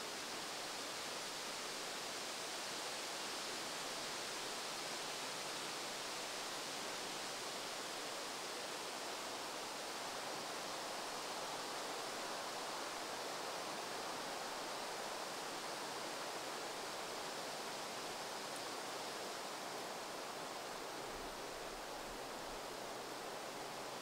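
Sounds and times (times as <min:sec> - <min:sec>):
outdoor ambience hiss: 0:00.0 - 0:24.0.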